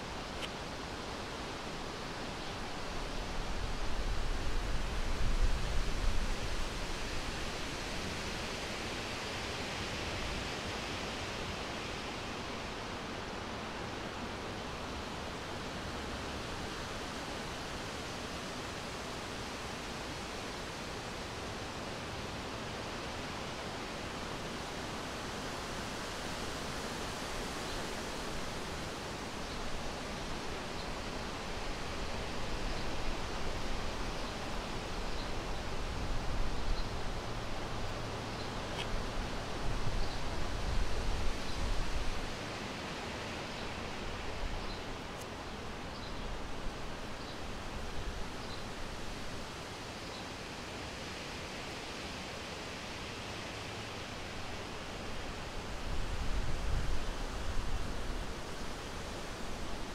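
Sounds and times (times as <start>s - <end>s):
wind hissing against microphone: 0.0s - 59.9s.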